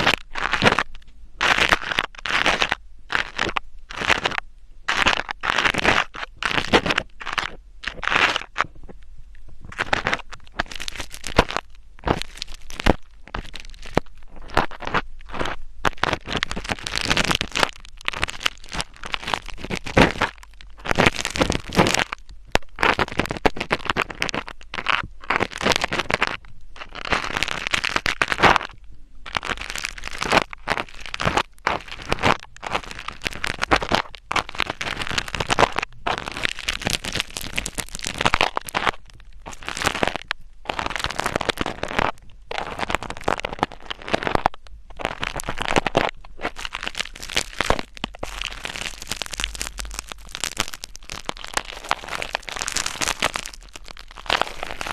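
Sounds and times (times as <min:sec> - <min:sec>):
close scratching and crackling: 0:00.0 - 0:54.9.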